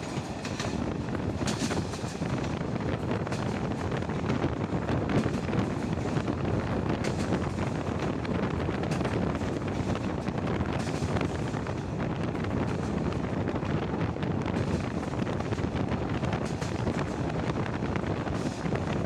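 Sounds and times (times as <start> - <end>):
train wheels rumbling: 0.0 - 19.0
wind rushing on microphone: 0.0 - 19.0.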